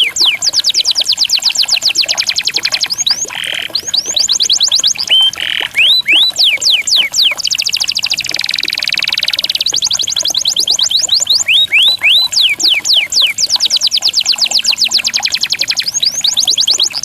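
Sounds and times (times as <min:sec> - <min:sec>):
songbird whistling song: 0:00.0 - 0:17.0.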